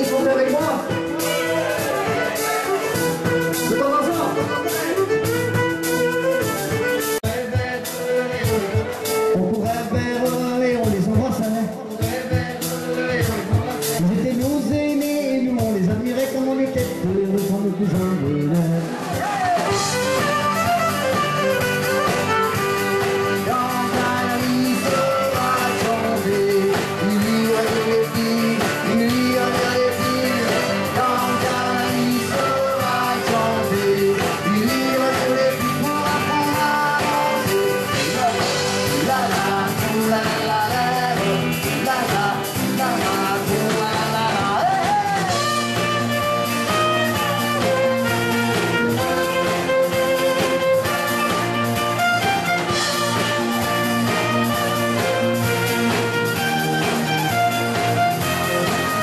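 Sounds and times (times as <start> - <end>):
drums: 0.0 - 59.0
electric guitars: 0.0 - 59.0
singer: 0.0 - 59.0.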